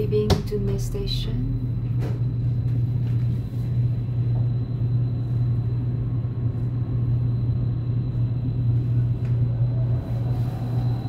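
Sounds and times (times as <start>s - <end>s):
train cabin low rumble: 0.0s - 11.0s.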